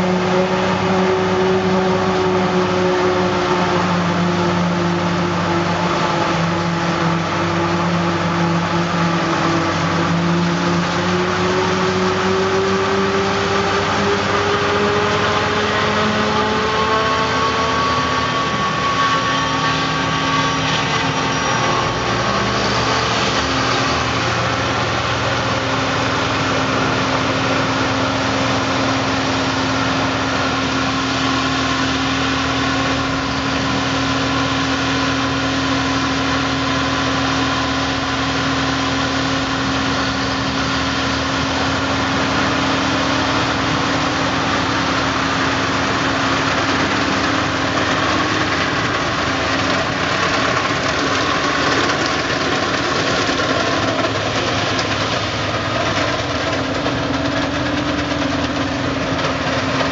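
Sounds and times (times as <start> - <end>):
forage harvester droning: 0.0 - 59.9
tractor engines: 0.0 - 59.9.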